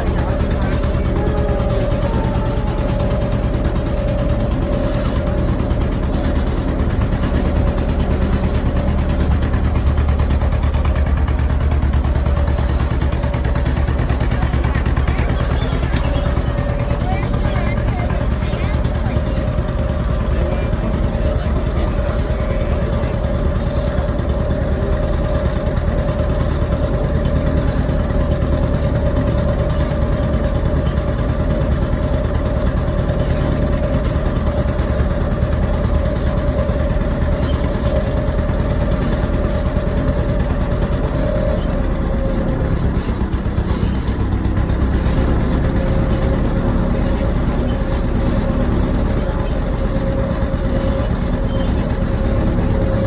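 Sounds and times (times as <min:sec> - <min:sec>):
steady whine: 0:00.0 - 0:42.6
tractor engine rumble: 0:00.0 - 0:53.0.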